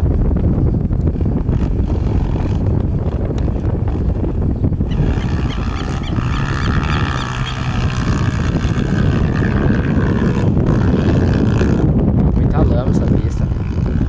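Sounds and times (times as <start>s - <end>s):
wind rumble on microphone: 0.0s - 14.0s
dirt bike engine: 1.1s - 12.7s.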